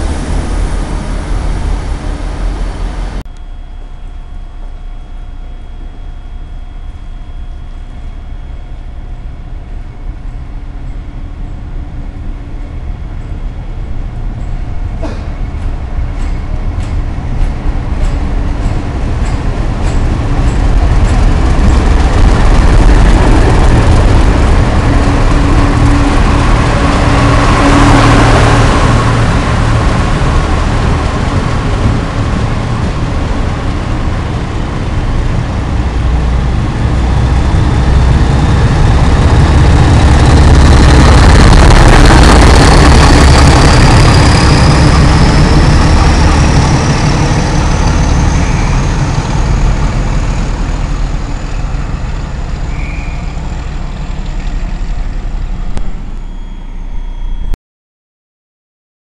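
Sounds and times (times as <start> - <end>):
diesel locomotive engine throb: 0.0 - 57.6
high rising whine: 0.0 - 57.6
wheel and rail noise: 6.6 - 57.5.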